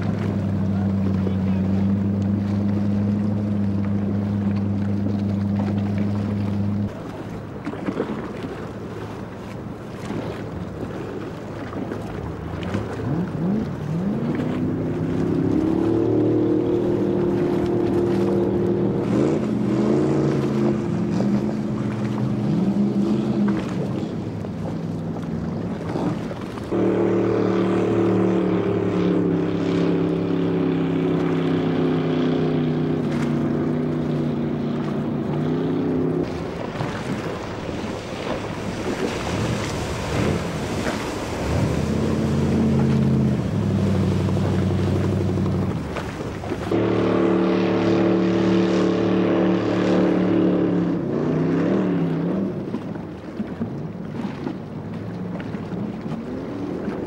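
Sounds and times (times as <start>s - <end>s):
speedboat engine running hard: 0.0s - 57.0s.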